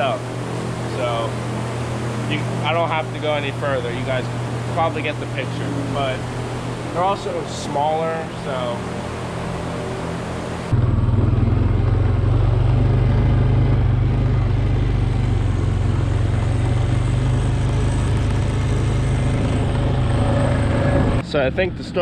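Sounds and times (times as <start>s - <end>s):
atv engine running: 0.0s - 21.2s
ventilation fan hum: 0.0s - 22.0s.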